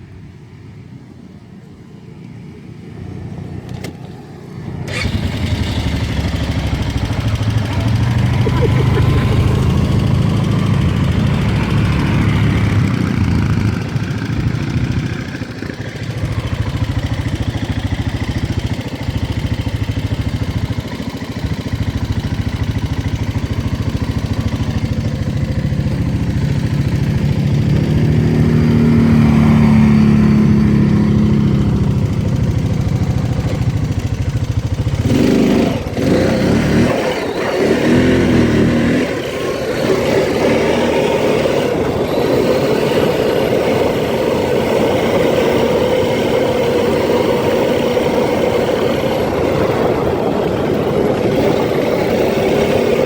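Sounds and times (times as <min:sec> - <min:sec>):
atv engine running: 0:01.6 - 0:53.0.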